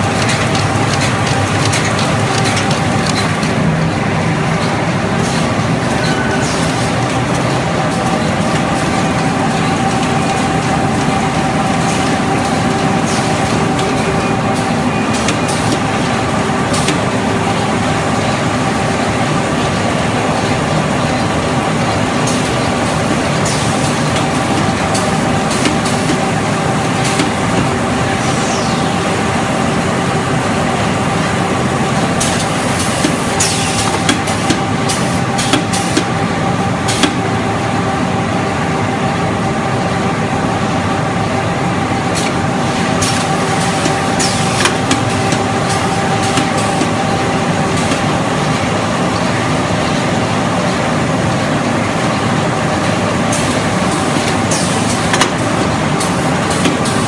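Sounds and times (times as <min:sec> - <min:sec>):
machinery humming: 0:00.0 - 0:57.0.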